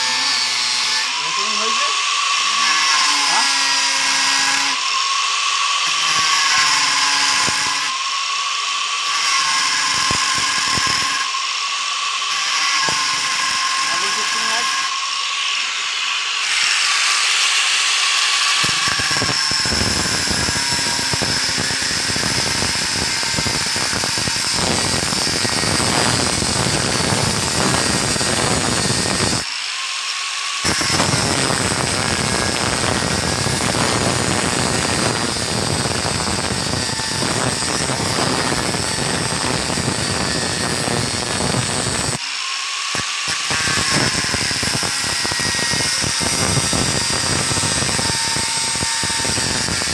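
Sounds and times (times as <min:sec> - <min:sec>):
angle grinder cutting metal: 0:00.0 - 0:49.9.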